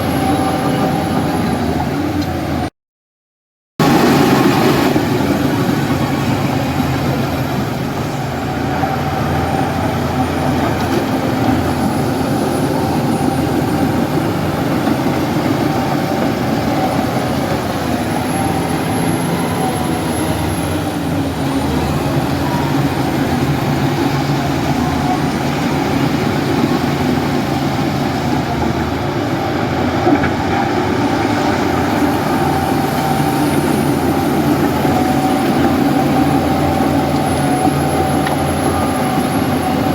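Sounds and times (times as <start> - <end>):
heavy diesel engine droning: 0.0 - 2.7, 3.8 - 39.9.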